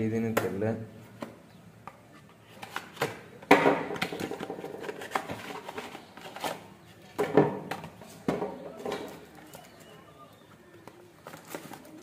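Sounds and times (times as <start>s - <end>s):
clattering and rustling packaging: 2.4s - 12.0s.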